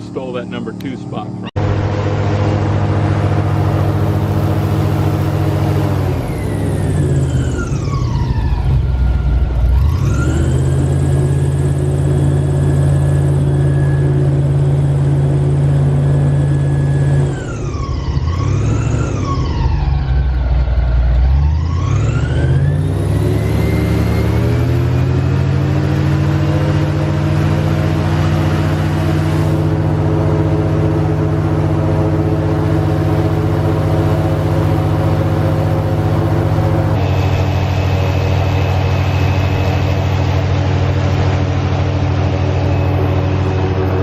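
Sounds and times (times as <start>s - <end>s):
airboat engine and propeller: 0.0s - 44.0s.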